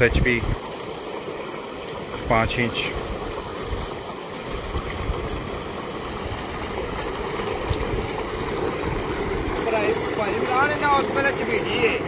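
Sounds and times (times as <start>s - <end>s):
water gushing into tank: 0.0s - 12.0s.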